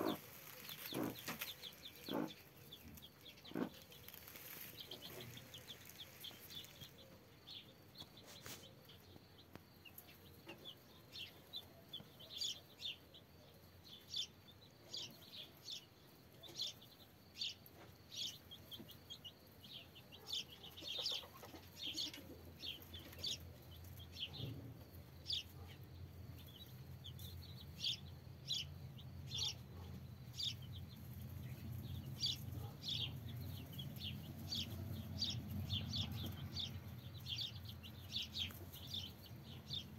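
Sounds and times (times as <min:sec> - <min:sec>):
chicks peeping: 0:00.0 - 0:13.3, 0:13.9 - 0:39.9.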